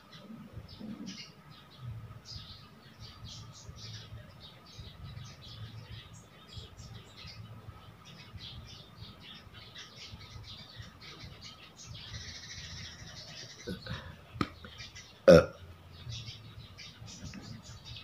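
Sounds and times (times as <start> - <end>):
low steady hum: 0.0 - 18.0
small birds chirping: 0.0 - 18.0.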